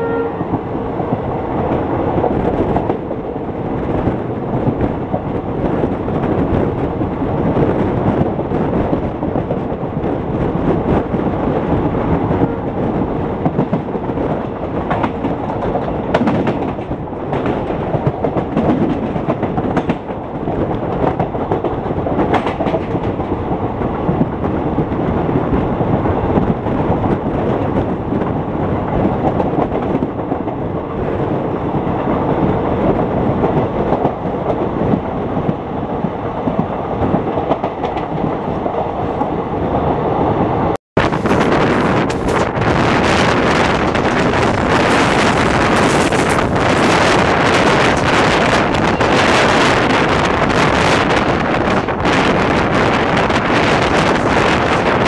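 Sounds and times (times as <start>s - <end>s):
clickety-clack over rail joints: 0.0s - 55.0s
train wheels rumbling on track: 0.0s - 55.0s.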